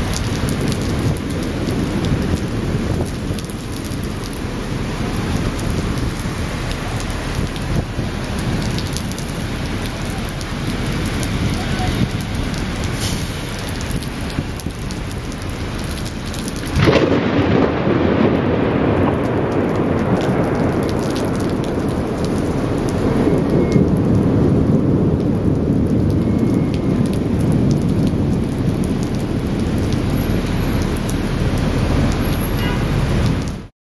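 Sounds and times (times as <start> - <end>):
steady rain: 0.0 - 33.7
thunderclap with low rumble: 0.0 - 33.7.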